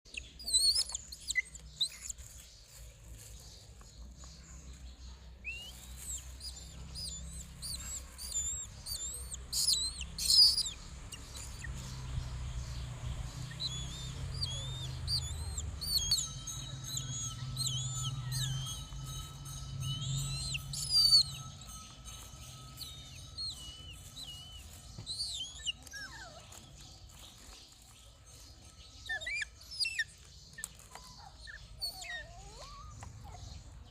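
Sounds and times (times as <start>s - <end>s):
pet bird chirping: 0.0s - 33.9s.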